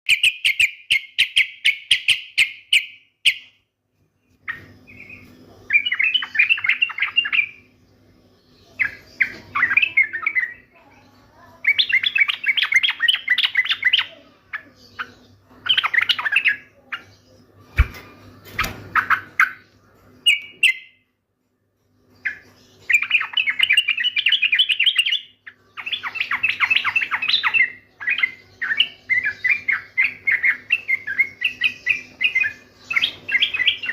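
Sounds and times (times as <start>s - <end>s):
bird singing chirpy phrases: 0.1s - 3.6s, 4.2s - 21.0s, 22.0s - 33.9s.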